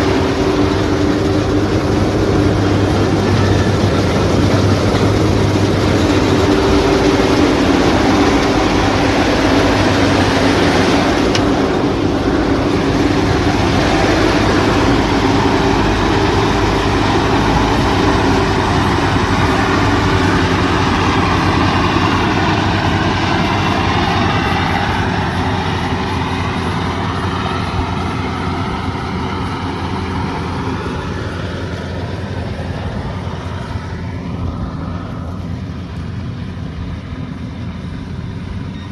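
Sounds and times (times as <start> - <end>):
threshing machinery clatter: 0.0 - 36.4
combine harvester engine hum: 0.0 - 38.9.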